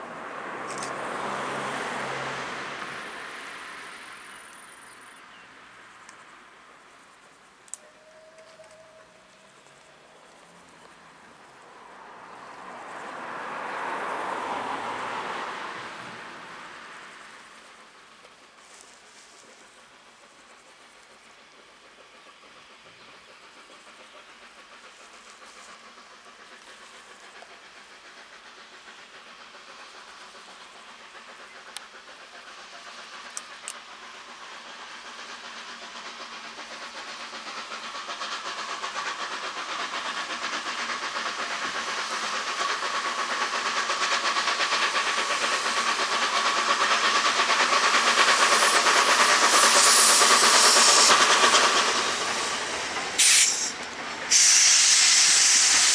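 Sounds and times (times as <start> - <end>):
loud steam hiss: 0.0 - 55.9
steam locomotive exhaust: 0.0 - 55.9.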